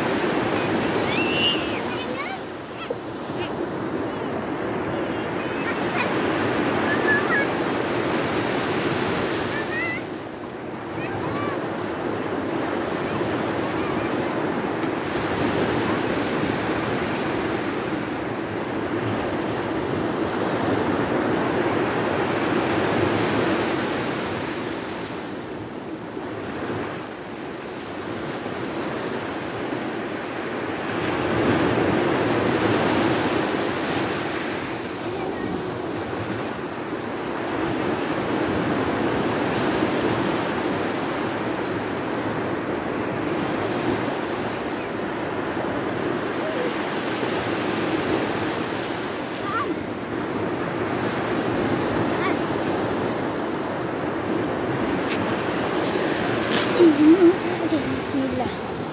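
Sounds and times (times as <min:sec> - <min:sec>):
waves breaking on sandy beach: 0:00.0 - 0:58.9.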